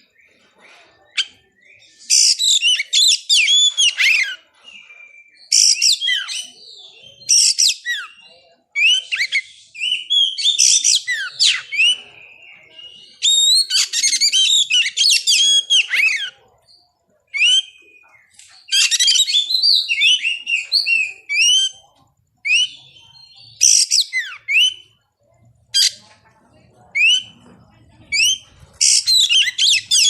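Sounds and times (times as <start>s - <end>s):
bird singing whistles and chirps: 0.0s - 25.0s, 26.8s - 30.0s.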